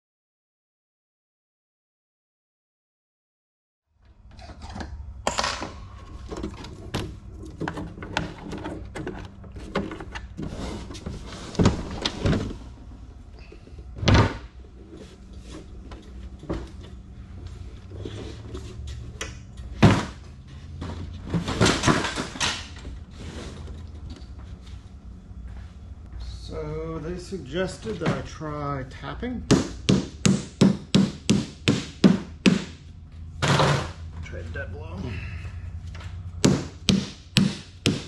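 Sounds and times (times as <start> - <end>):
steady low hum: 4.0 - 38.0.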